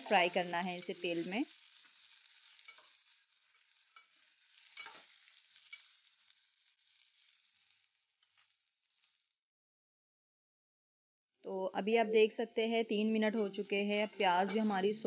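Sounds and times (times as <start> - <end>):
vegetables sizzling in oil: 0.0 - 9.4, 11.8 - 15.0.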